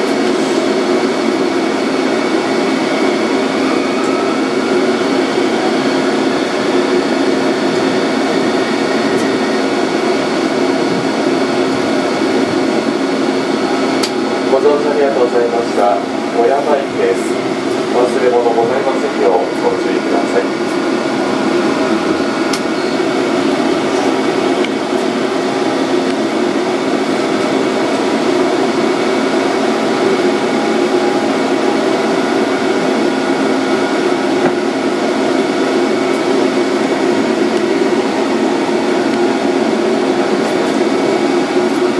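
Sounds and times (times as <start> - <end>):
tram electric hum and whir: 0.0 - 41.9.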